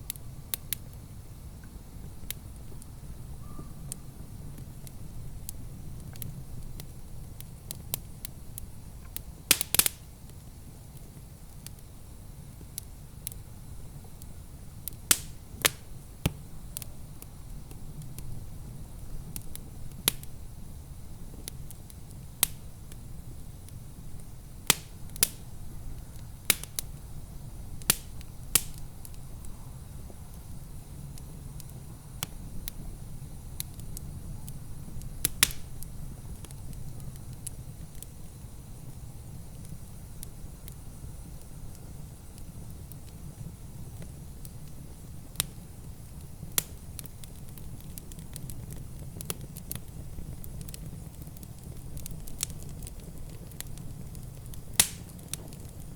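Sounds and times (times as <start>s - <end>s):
wood fire crackling: 0.0s - 55.9s
sharp pops of fire: 0.1s - 55.9s.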